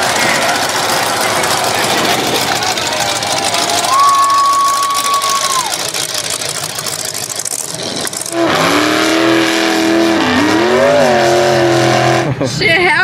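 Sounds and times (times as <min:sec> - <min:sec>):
engines and people: 0:00.0 - 0:13.0
truck engine revving hard: 0:00.0 - 0:13.0.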